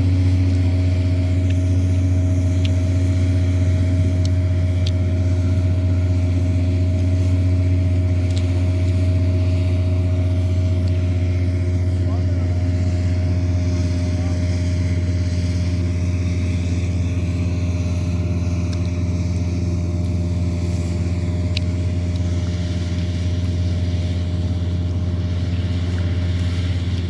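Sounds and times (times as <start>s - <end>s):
combine harvester engine humming: 0.0s - 27.0s.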